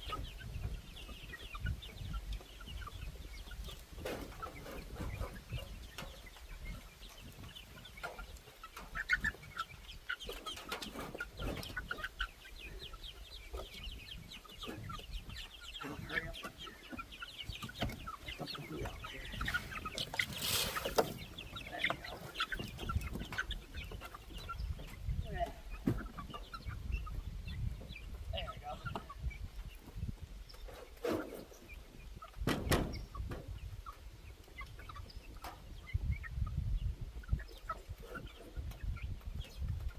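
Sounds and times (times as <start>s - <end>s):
chickens clucking and cheeping: 0.0s - 39.9s.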